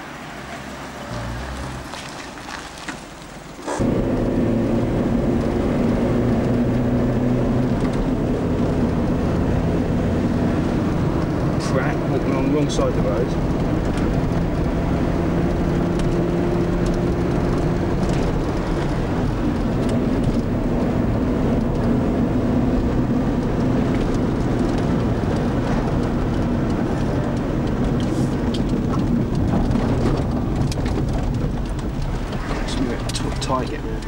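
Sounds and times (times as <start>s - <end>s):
car engine hum: 0.0s - 34.0s
road noise: 0.0s - 34.0s.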